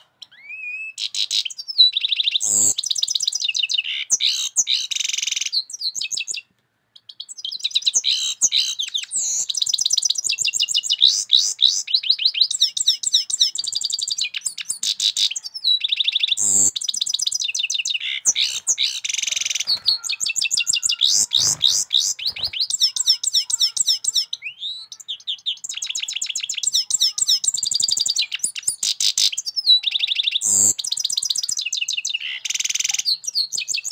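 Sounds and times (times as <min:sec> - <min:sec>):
goldfinch twittering song: 0:00.2 - 0:33.9.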